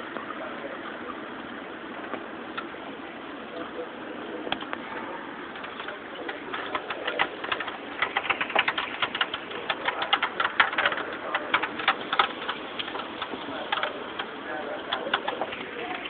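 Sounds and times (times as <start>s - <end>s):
rain drops on hard surface: 0.0s - 16.0s.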